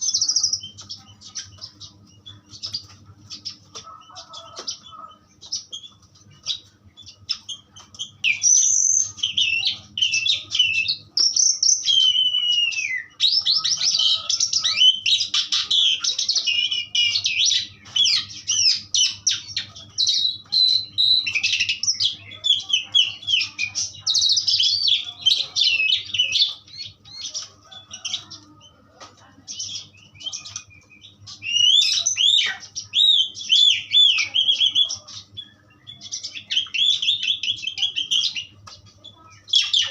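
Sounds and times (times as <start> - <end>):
starling singing varied song: 0.0 - 39.9.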